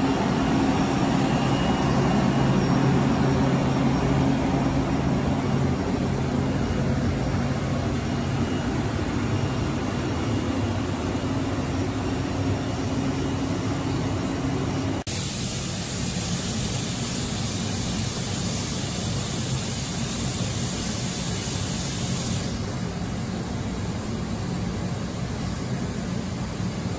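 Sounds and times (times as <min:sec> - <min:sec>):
hissy machine noise: 0:00.0 - 0:26.9
machine low hum and drone: 0:00.0 - 0:26.9.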